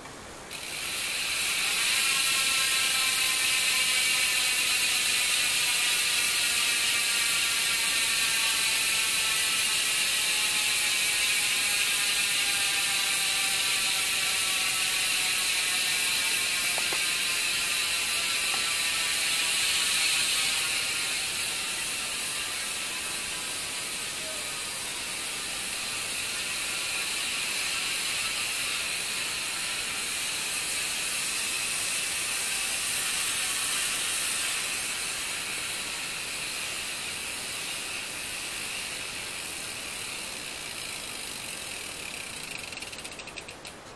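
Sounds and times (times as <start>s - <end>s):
bicycle freehub ratcheting buzz: 0.5s - 43.8s.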